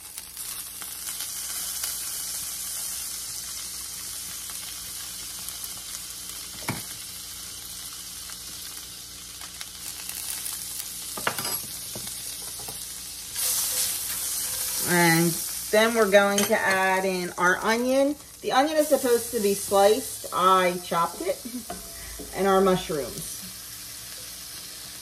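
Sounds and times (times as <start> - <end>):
butter sizzling in a skillet: 0.0 - 25.0.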